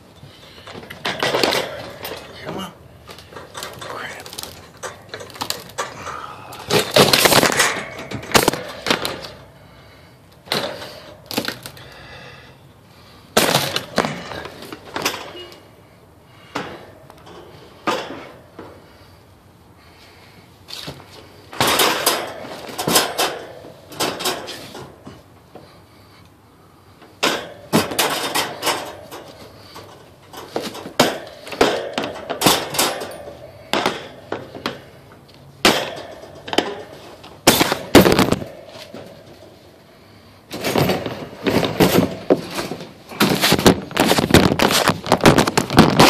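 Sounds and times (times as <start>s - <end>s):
handling rattling and scraping: 0.0s - 12.1s, 12.9s - 46.0s.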